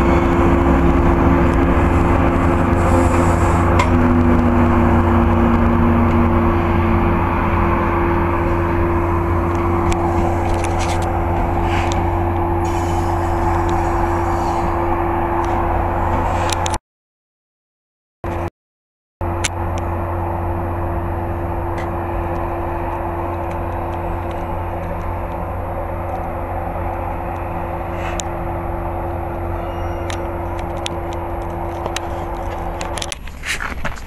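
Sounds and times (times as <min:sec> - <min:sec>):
constant hum: 0:00.0 - 0:16.8, 0:19.2 - 0:34.0
train wheels rumbling on rails: 0:00.0 - 0:16.8, 0:19.2 - 0:34.0.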